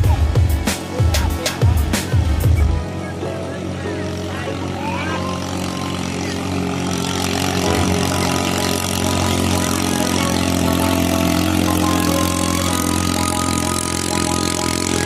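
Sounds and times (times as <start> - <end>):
boat engine running flat out: 0.0 - 15.0.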